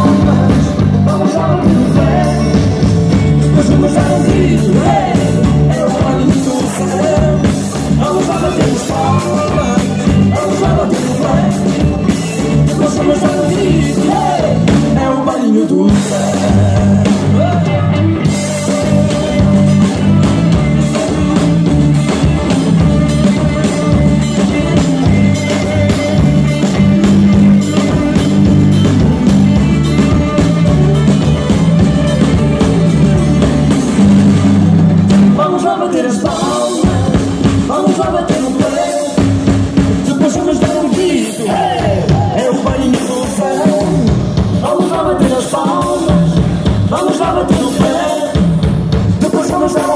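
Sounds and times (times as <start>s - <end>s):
man singing into a microphone: 0.0s - 26.7s, 35.2s - 49.9s
live band playing dance music: 0.0s - 49.9s.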